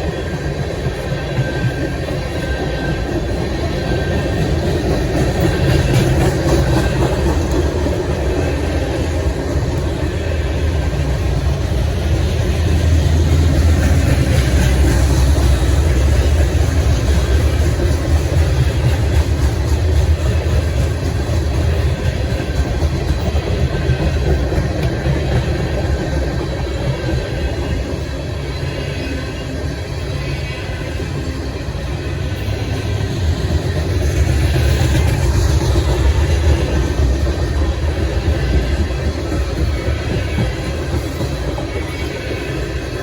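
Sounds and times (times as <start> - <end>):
freight train rumbling on rails: 0.0 - 43.0.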